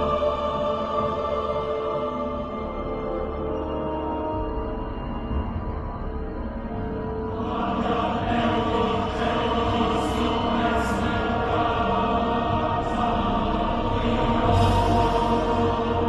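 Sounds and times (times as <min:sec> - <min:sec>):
chant-like voices: 0:00.0 - 0:04.1, 0:06.8 - 0:16.0.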